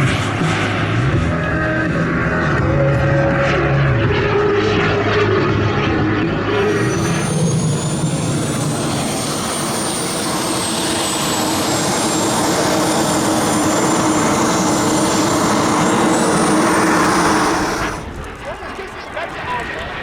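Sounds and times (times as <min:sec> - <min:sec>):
model jet turbine roar: 0:00.0 - 0:20.0.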